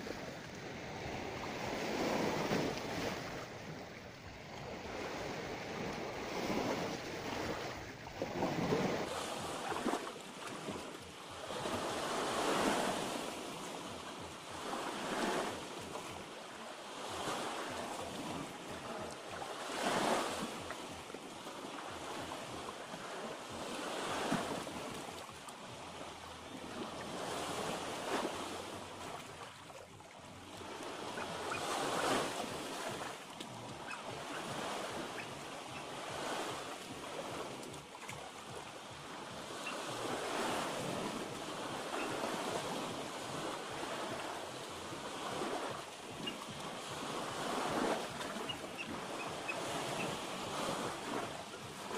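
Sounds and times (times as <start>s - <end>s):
sea waves washing ashore: 0.0s - 51.9s.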